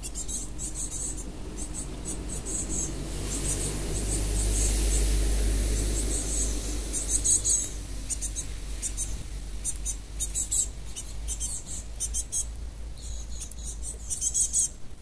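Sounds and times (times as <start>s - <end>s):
birds chipping: 0.0s - 14.8s.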